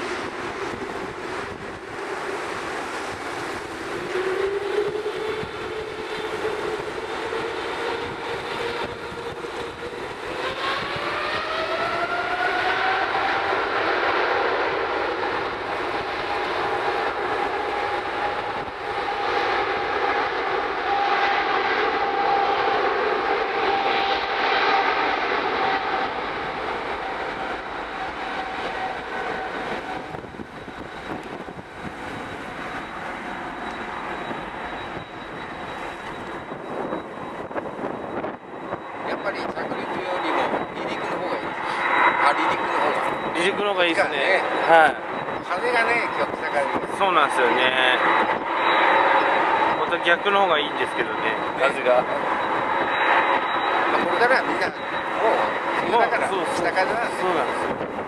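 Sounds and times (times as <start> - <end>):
jet engines spooling up: 0.0 - 58.0
rising engine whine: 0.0 - 58.0.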